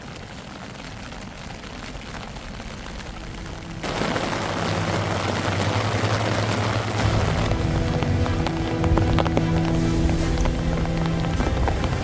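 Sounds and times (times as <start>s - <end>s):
rain on a tent: 0.0s - 12.0s
low steady hum: 1.1s - 12.0s.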